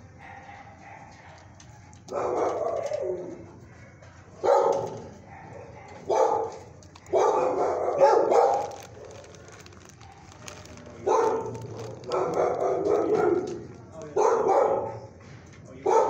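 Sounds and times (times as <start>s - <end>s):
dog barking: 0.1s - 15.2s.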